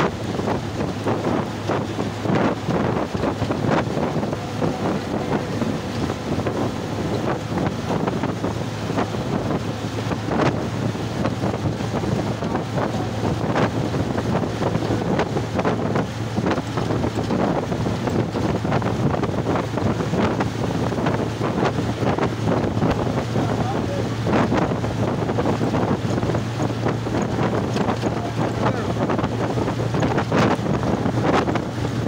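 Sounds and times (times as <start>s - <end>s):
low drone of bus and tyres: 0.0s - 32.0s
wind buffeting microphone: 0.0s - 32.0s.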